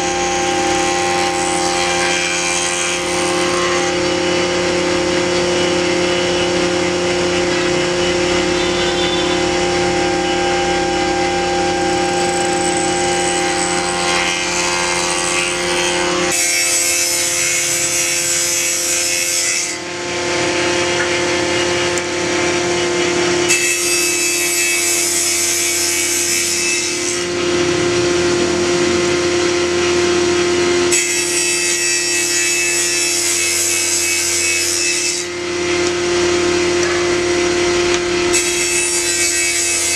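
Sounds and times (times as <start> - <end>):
circular saw humming: 0.0 - 39.9.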